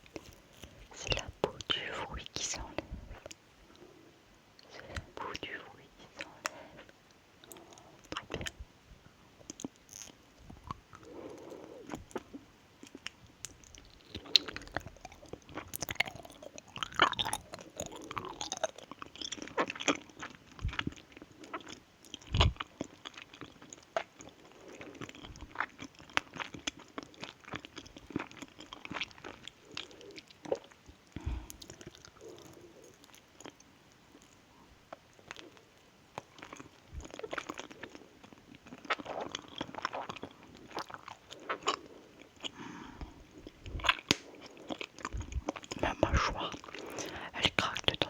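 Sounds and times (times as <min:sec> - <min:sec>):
close chewing of soft candy: 0:00.0 - 0:48.0.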